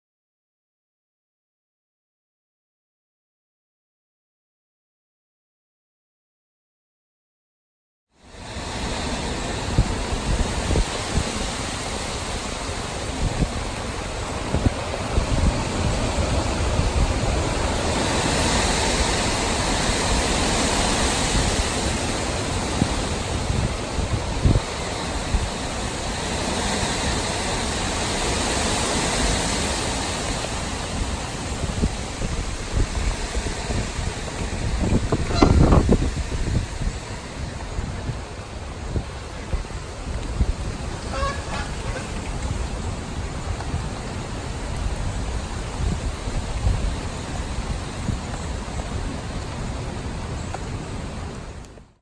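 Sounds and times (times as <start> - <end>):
hurricane wind and rain: 8.1 - 52.0
wind buffeting microphone: 8.4 - 51.7.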